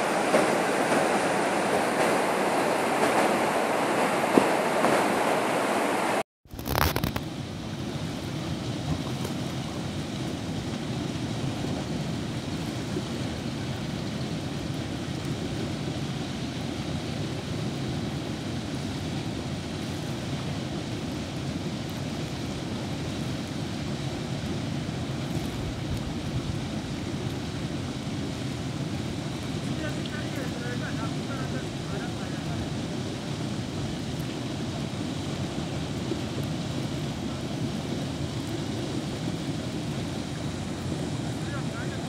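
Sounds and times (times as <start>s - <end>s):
water rushing down a concrete channel: 0.0s - 42.0s.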